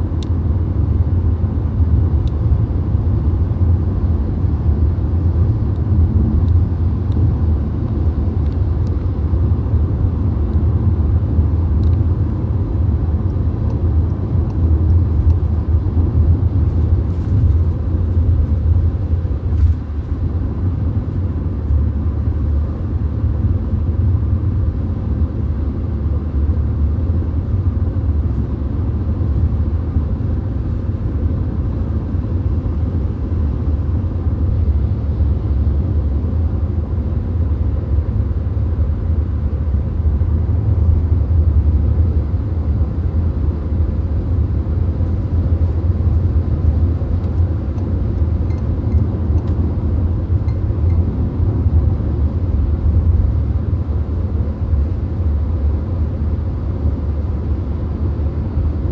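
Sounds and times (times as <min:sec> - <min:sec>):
road and tyre rumble in car: 0:00.0 - 0:58.9.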